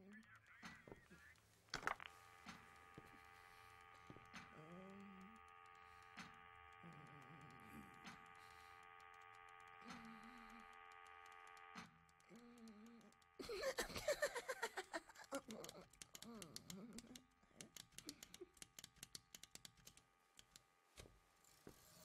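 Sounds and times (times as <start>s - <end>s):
steady electric hum: 0.0s - 22.0s
soft clicks: 0.1s - 13.5s, 15.2s - 21.7s.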